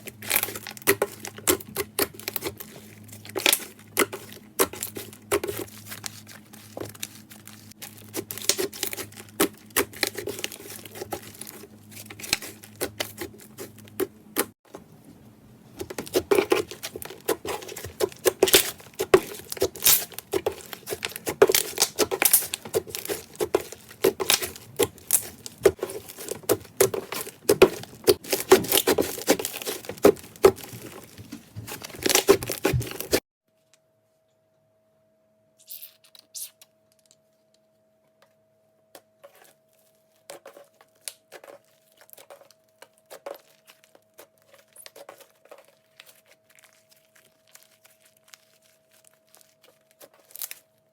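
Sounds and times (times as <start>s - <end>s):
hands kneading clay slime: 0.0s - 33.2s, 40.2s - 50.6s.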